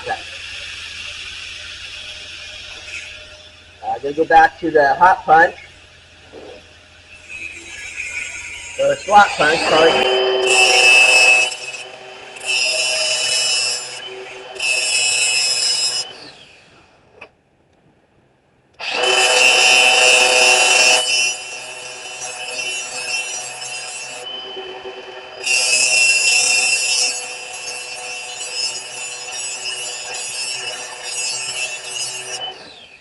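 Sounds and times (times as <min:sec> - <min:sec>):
power grinder grinding steel: 0:00.0 - 0:16.9, 0:18.8 - 0:33.0.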